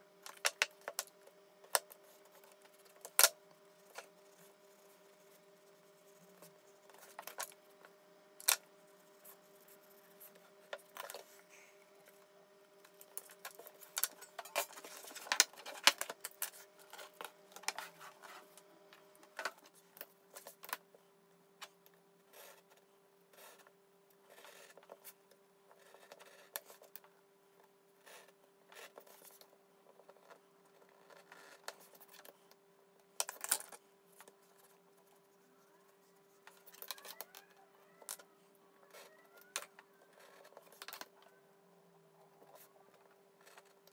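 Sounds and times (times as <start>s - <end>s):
faint hum: 0.0s - 43.9s.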